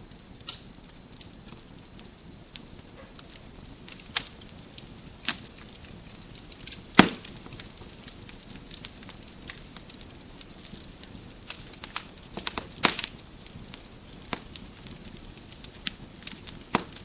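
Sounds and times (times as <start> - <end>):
loud pops of fire: 0.0 - 17.0
wood fire crackling: 0.0 - 17.0.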